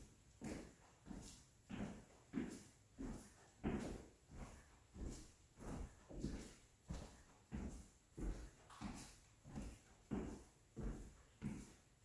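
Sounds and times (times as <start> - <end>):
footsteps on hard floor: 0.3 - 12.0.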